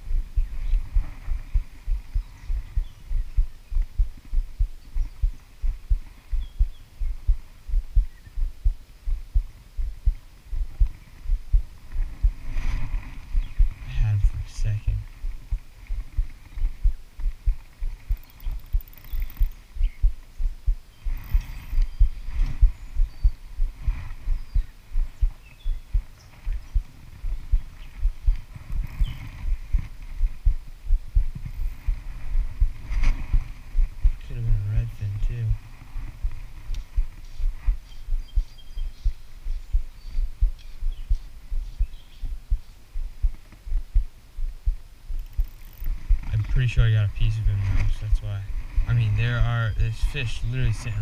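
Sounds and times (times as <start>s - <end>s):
thumping on microphone: 0.0s - 13.8s, 15.2s - 18.8s, 19.8s - 34.2s, 36.1s - 45.2s.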